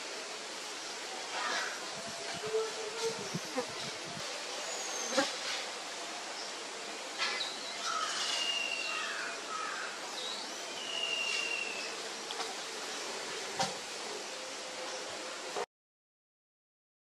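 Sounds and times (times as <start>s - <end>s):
steady background hiss: 0.0s - 15.7s.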